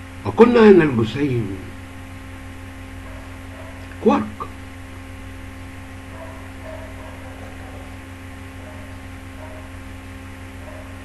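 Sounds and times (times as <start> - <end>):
low electrical hum: 0.0 - 11.0
steady hiss: 0.0 - 11.0.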